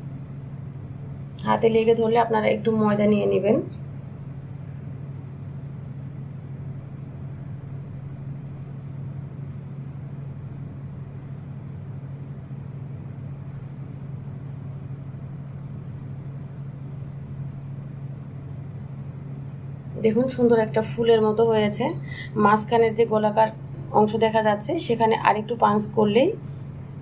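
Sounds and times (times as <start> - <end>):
low hum with hiss: 0.0 - 27.0.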